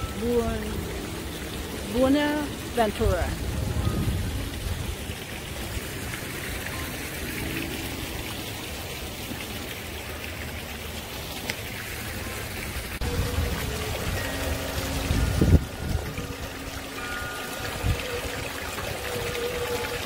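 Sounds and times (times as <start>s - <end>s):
running water trickling: 0.0s - 20.0s.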